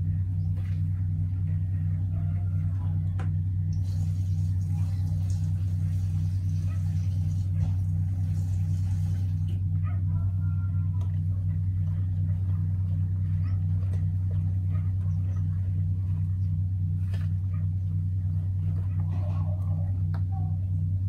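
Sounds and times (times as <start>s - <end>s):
motor droning with pulsing beat: 0.0s - 21.0s.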